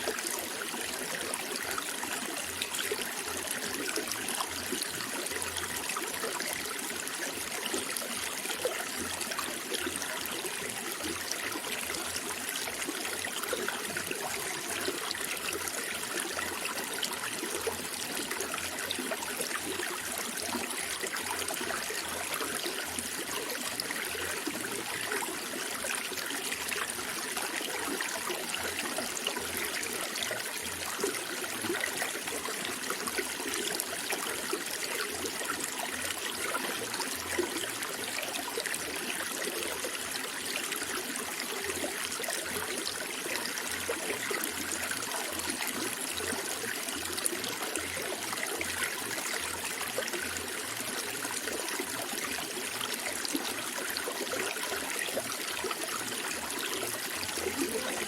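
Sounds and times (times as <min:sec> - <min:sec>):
water trickling and babbling: 0:00.0 - 0:58.0.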